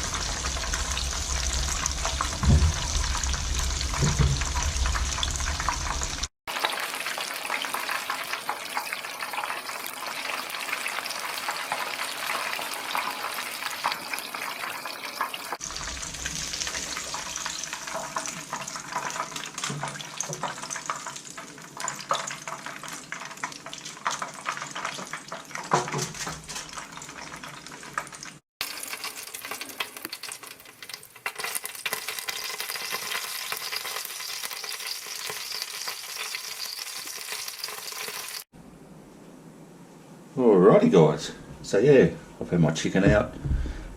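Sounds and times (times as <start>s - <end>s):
chicken deep-frying in oil: 0.0s - 38.5s.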